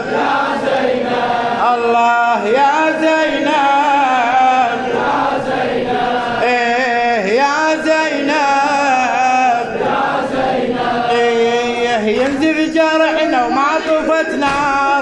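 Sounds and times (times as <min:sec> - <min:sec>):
man singing a mourning chant: 0:00.0 - 0:00.3, 0:01.5 - 0:05.5, 0:06.1 - 0:09.9, 0:10.9 - 0:15.0
men chanting: 0:00.0 - 0:15.0.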